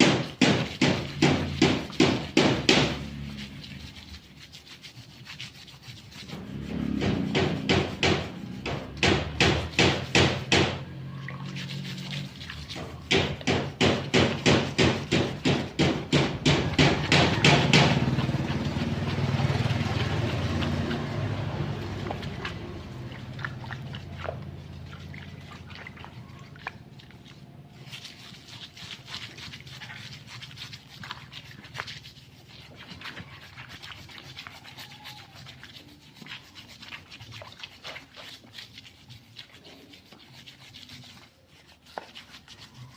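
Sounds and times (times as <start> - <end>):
hand scrubbing engine parts: 0.0 - 42.9.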